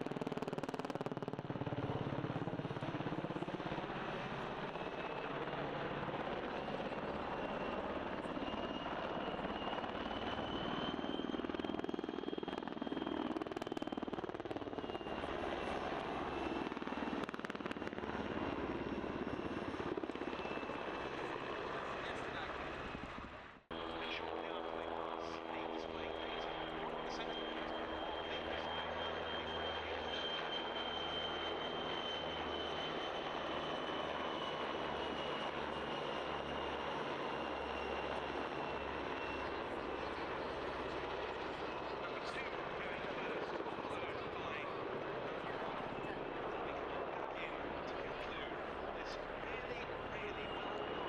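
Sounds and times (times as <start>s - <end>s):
helicopter engine rush: 0.0s - 51.0s
helicopter rotor beating: 0.0s - 51.0s.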